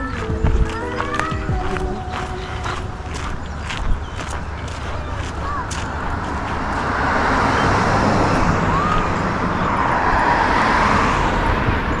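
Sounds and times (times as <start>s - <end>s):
passing road traffic: 0.0s - 12.0s.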